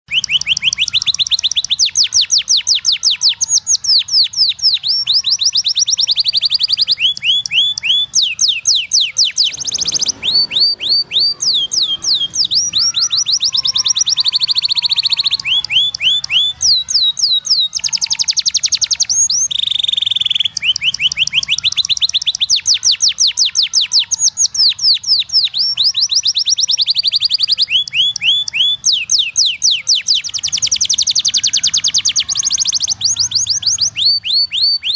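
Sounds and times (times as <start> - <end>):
canary singing rapid trills: 0.1 - 34.9.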